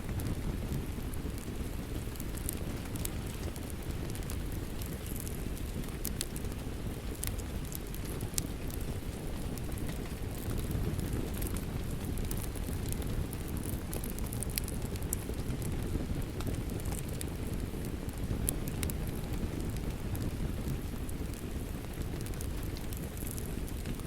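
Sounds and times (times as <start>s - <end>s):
steady low rush of rain: 0.0s - 24.0s
wood fire crackling and popping: 0.0s - 24.0s.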